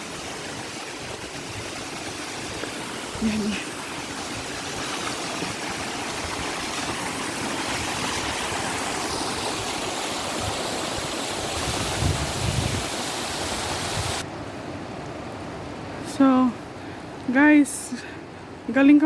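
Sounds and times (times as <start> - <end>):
river water rushing: 0.0 - 16.1.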